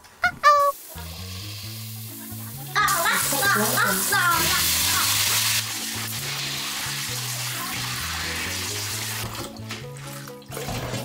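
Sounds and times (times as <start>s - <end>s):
background music: 0.1s - 11.0s
tap water running into sink: 1.1s - 11.0s.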